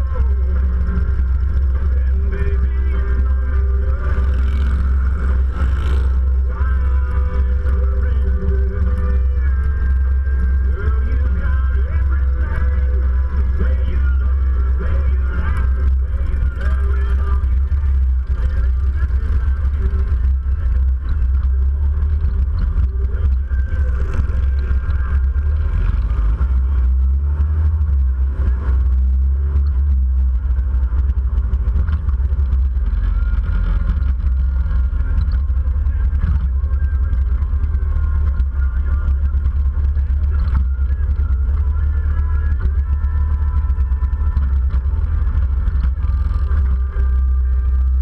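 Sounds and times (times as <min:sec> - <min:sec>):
deep wind rumble: 0:00.0 - 0:48.0
motorcycle engine running: 0:00.0 - 0:48.0.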